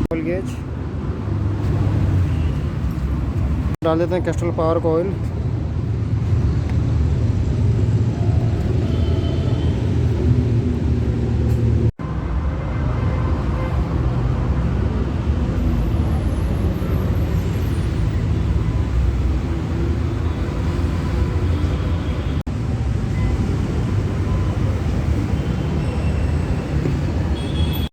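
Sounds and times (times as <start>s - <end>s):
road traffic rumble: 0.0s - 27.9s.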